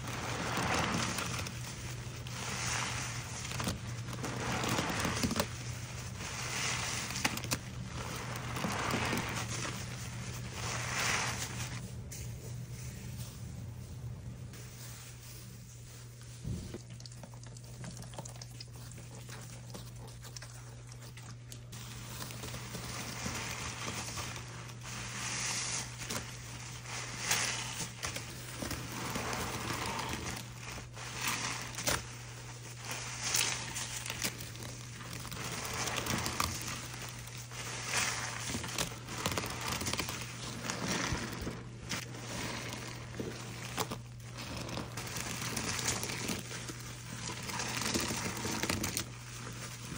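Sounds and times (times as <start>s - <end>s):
low steady hum: 0.0s - 49.9s
soapy sponges squishing: 0.0s - 49.9s.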